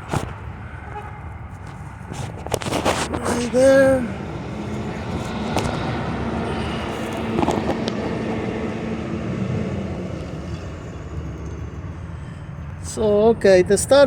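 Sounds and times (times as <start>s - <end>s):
low mechanical rumble: 0.0s - 13.8s.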